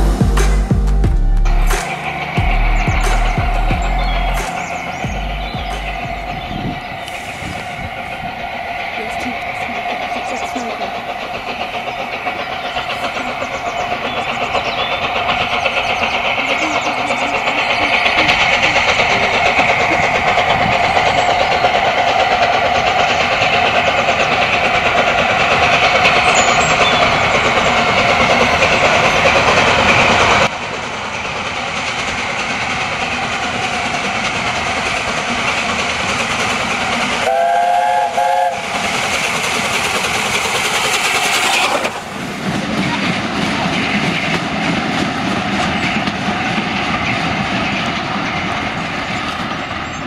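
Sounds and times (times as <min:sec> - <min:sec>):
steam locomotive running: 0:00.0 - 0:50.0.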